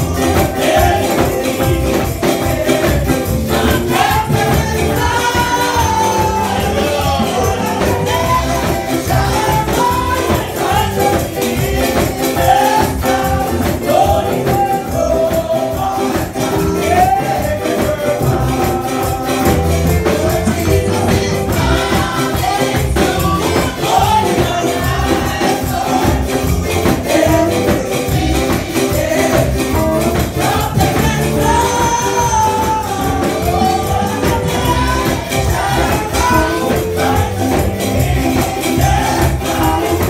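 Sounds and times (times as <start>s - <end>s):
chordal and bass accompaniment: 0.0s - 40.0s
tambourine beat: 0.0s - 40.0s
women's choir singing: 0.0s - 40.0s.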